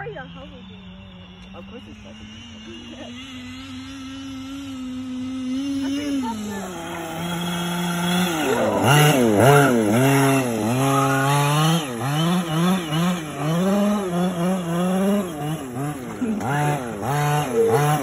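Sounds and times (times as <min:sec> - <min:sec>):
small engine revving: 0:00.0 - 0:18.0.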